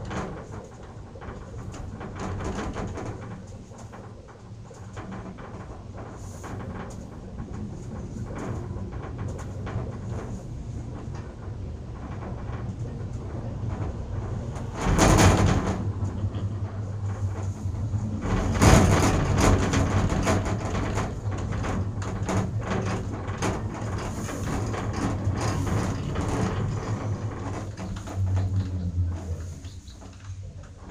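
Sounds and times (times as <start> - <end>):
chairlift rumbling: 0.0 - 30.9
clicking and rattling: 0.0 - 30.9
loud clattering rumbles: 0.0 - 30.9.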